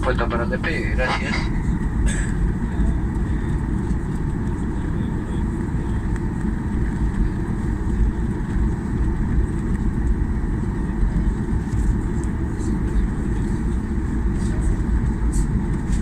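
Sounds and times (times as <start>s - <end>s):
airplane cabin rumble: 0.0s - 16.0s
faint engine whine: 0.0s - 16.0s.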